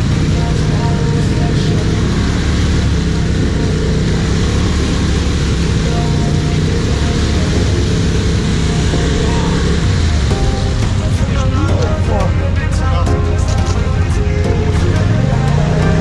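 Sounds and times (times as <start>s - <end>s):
engines idling: 0.0s - 16.0s.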